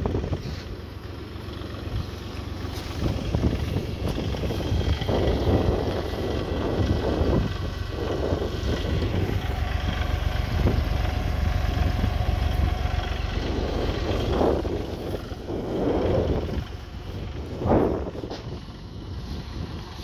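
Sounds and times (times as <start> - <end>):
diesel engine running: 0.0 - 20.0
wind buffeting microphone: 0.0 - 20.0.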